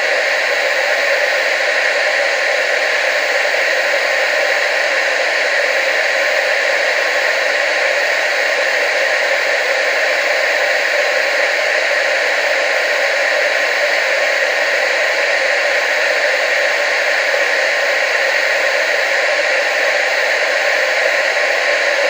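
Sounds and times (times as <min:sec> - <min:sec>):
tv static hiss: 0:00.0 - 0:22.0.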